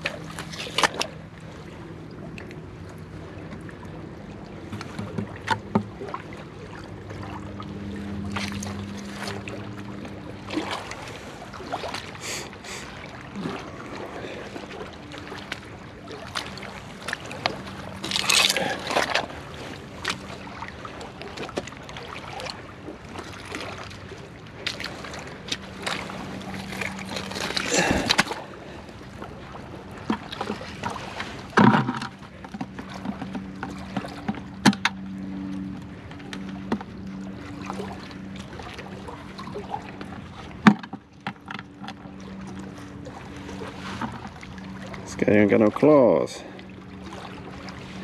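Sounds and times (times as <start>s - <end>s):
low engine drone: 0.0s - 48.0s.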